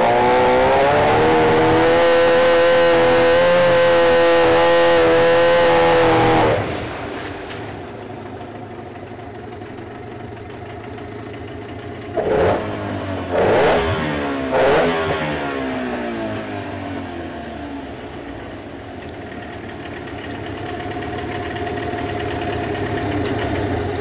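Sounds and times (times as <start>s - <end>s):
outboard motor revving: 0.0s - 9.8s, 11.4s - 24.0s
propeller churning water: 0.0s - 24.0s.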